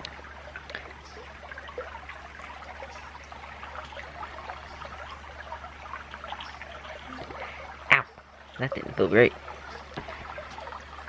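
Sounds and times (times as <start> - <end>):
creek trickling over gravel: 0.0 - 11.0.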